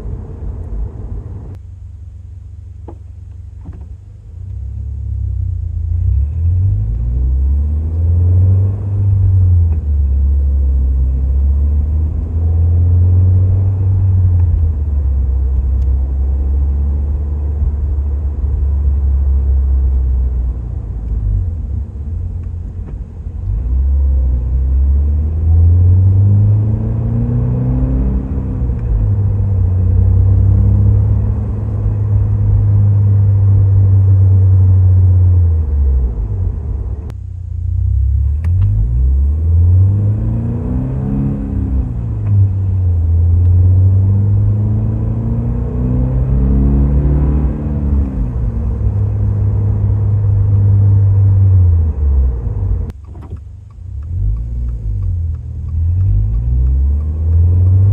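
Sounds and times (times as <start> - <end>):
car engine rumbling while driving: 0.0 - 57.9.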